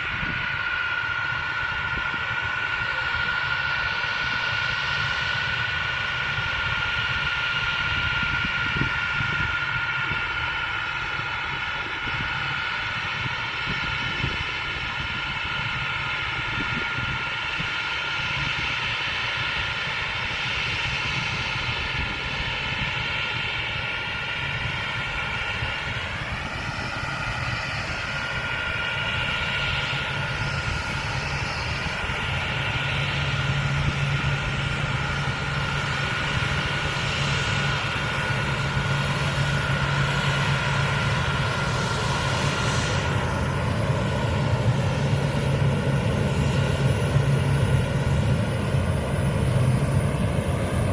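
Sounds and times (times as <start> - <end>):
aircraft engine whine: 0.0 - 50.9.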